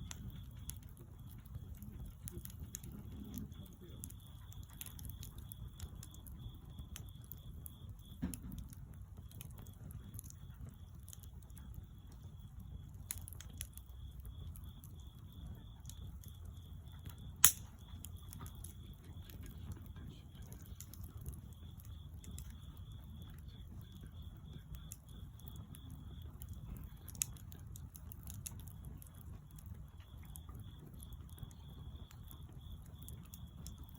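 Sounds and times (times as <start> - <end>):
bonfire crackling and popping: 0.0 - 33.9
low fire rumble: 0.0 - 33.9.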